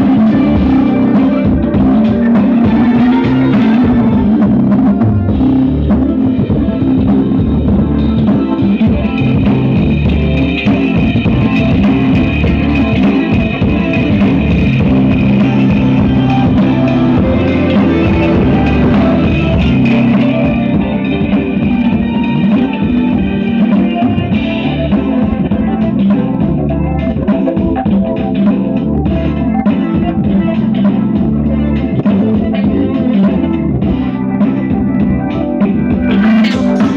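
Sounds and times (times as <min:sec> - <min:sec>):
loud music with guitar and drums: 0:00.0 - 0:36.9.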